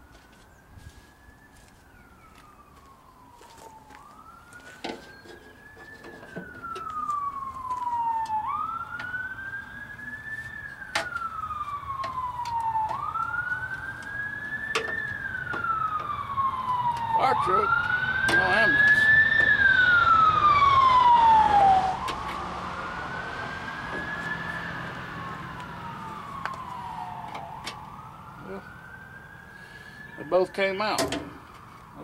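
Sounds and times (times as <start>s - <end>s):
emergency vehicle siren wailing: 0.0s - 32.0s.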